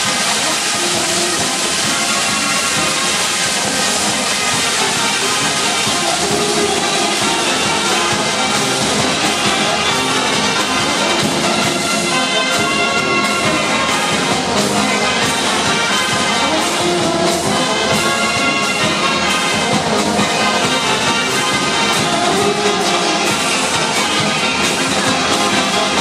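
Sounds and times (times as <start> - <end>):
brass dance music: 0.0 - 26.0
percussion beat: 0.0 - 26.0.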